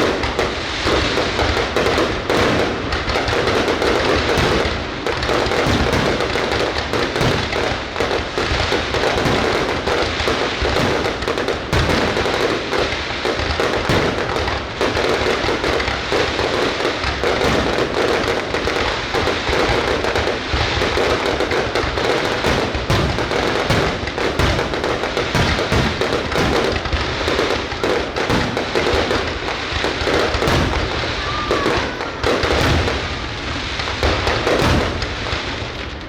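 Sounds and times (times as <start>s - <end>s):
fireworks bursting and crackling: 0.0s - 36.0s.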